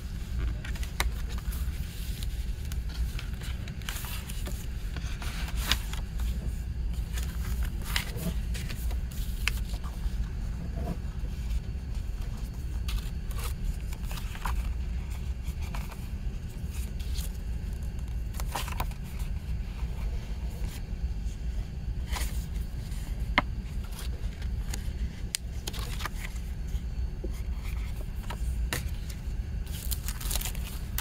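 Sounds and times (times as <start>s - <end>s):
paper sleeve rustling: 0.0s - 20.9s, 22.0s - 31.0s
low background hum: 0.0s - 31.0s.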